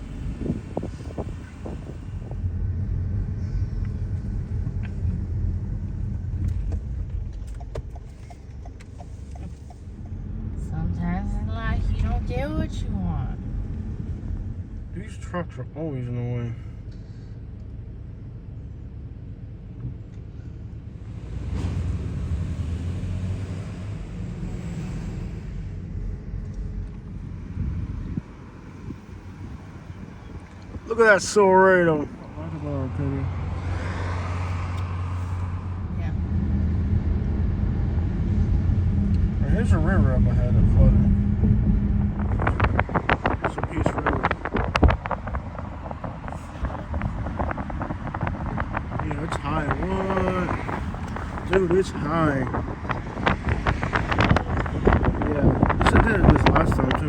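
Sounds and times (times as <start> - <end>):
tyres and wind hissing: 0.0 - 18.6, 19.7 - 57.0
road and engine rumble inside car: 0.0 - 57.0.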